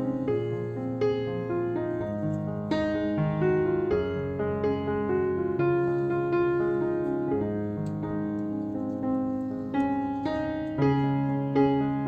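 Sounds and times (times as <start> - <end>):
piano chords over held bass: 0.0 - 12.0.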